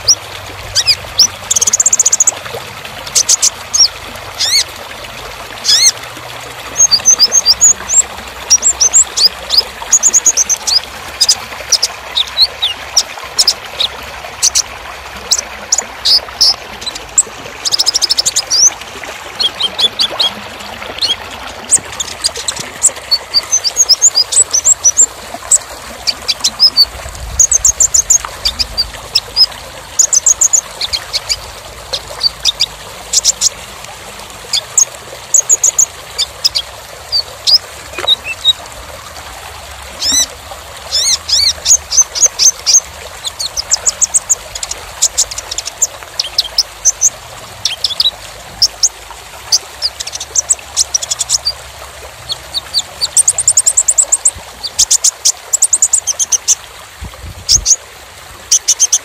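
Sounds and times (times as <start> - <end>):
bird chirping and trilling: 0.0 - 2.4, 3.0 - 4.7, 5.6 - 6.0, 6.7 - 33.6, 34.5 - 38.6, 40.0 - 51.6, 52.2 - 56.6, 57.5 - 57.8, 58.5 - 59.0
trickling water: 0.0 - 59.0.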